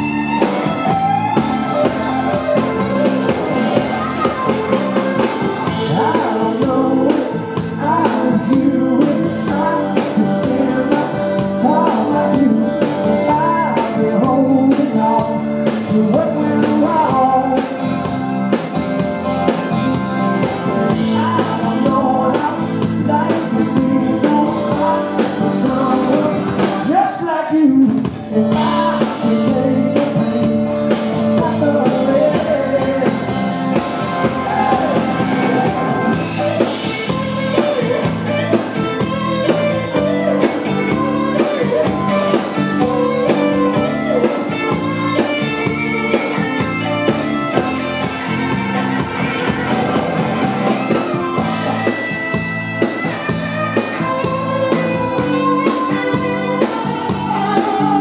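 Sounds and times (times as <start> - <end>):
blues-rock band playing: 0.0 - 58.0.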